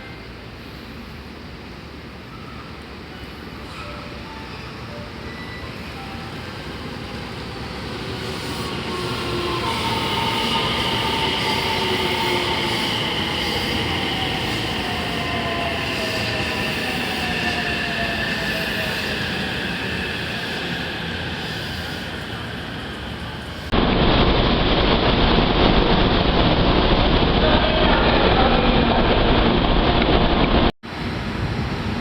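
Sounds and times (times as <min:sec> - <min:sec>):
train rolling rumble: 0:00.0 - 0:32.0.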